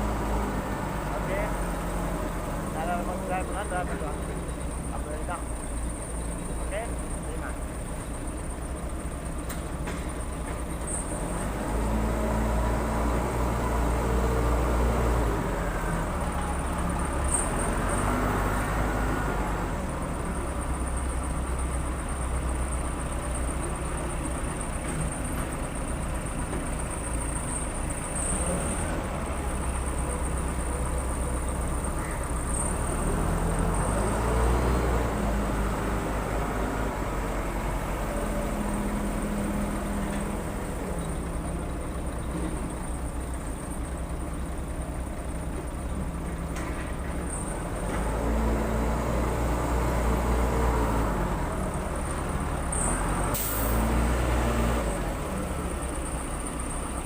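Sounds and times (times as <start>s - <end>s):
diesel engine revving under load: 0.0s - 57.0s.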